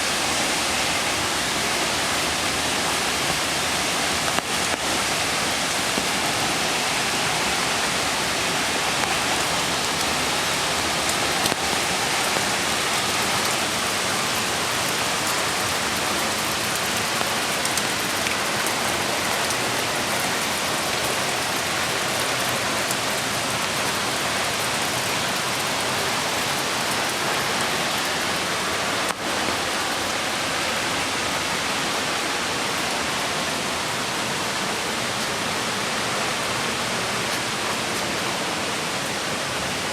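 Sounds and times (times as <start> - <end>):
creek flowing over stones: 0.0 - 39.9
rain falling: 0.0 - 39.9.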